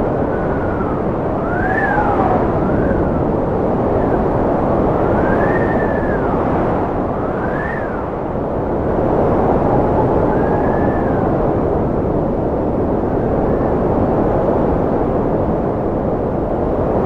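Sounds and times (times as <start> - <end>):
strong wind blowing: 0.0 - 17.0
whistling wind howls: 0.0 - 17.0.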